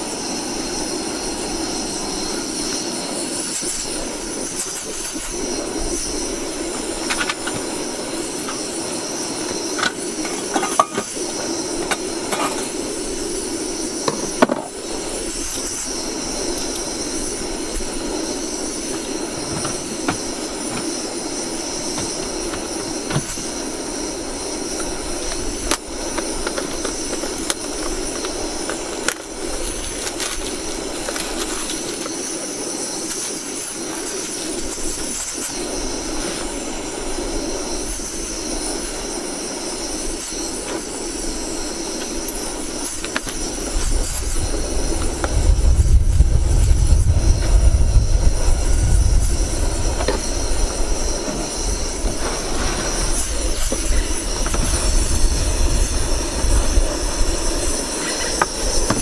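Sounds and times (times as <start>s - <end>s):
gas stove burner roaring hiss: 0.0s - 59.0s.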